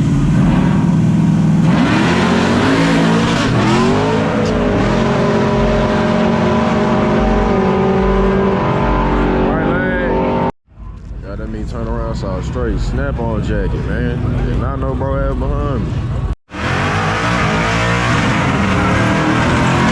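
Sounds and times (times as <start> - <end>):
pickup truck engines accelerating: 0.0 - 19.9.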